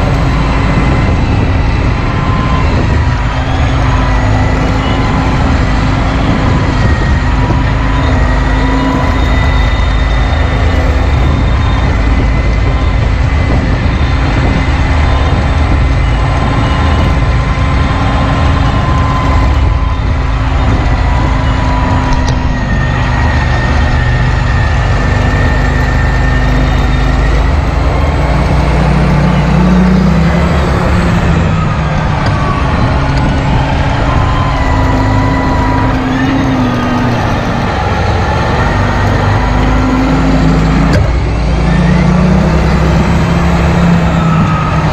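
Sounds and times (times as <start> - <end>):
tractor engine running under load: 0.0 - 44.9.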